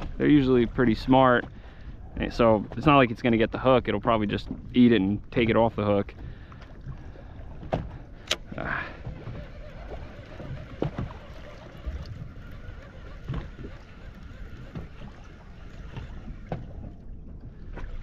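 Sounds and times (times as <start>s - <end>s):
water slapping against boat hull: 2.3s - 18.0s.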